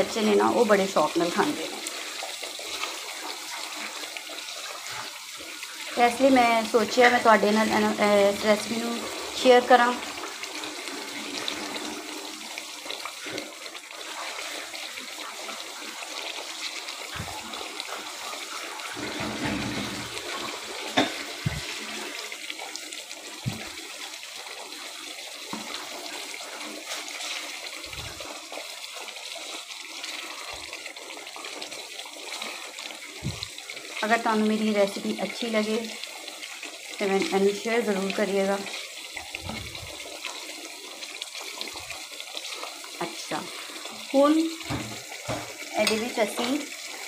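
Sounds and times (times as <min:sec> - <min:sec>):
curry sizzling and bubbling: 0:00.0 - 0:47.0.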